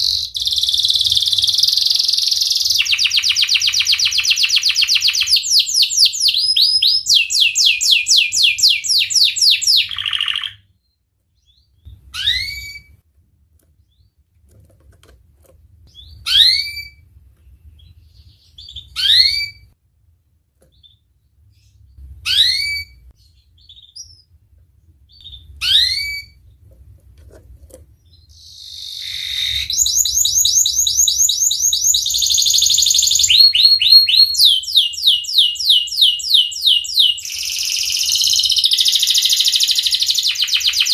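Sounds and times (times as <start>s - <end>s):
canary singing trills and chirps: 0.0s - 13.0s, 15.9s - 19.8s, 20.6s - 26.7s, 27.9s - 40.9s.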